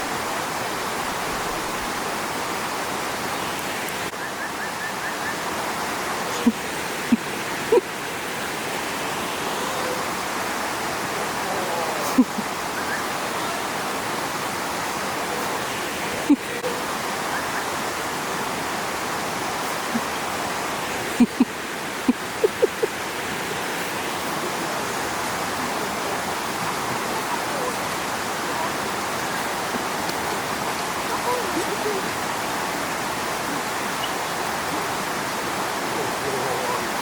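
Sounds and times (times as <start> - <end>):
running water rushing: 0.0 - 37.0.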